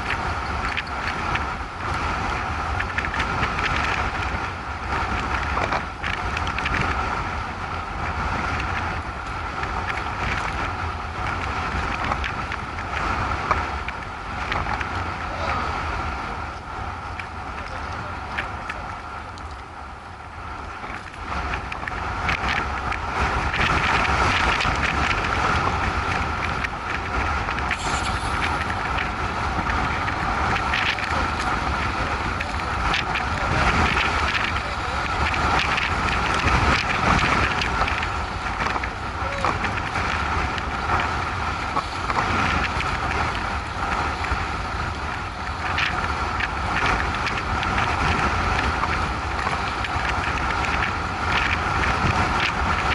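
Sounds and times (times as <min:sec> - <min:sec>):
road noise: 0:00.0 - 0:52.9
wind buffeting microphone: 0:00.0 - 0:52.9.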